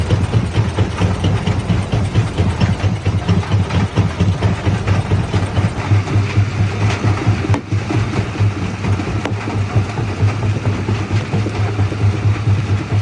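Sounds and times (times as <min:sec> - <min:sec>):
jaw crusher pulsing hum: 0:00.0 - 0:13.0.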